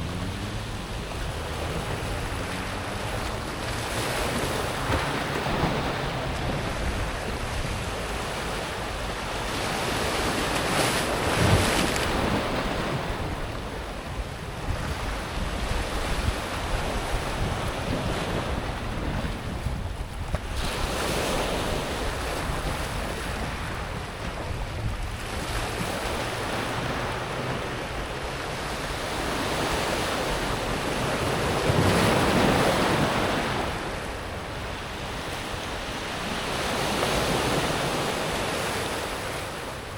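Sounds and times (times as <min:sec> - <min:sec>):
waves washing over pebbles: 0:00.0 - 0:39.9.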